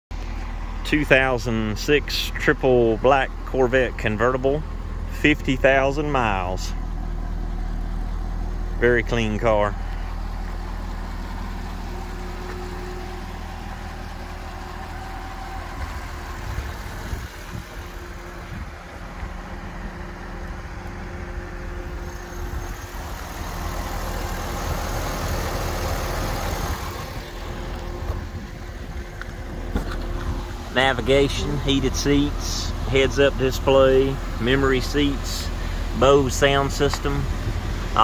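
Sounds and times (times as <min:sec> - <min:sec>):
car engine idling: 0:00.1 - 0:38.0.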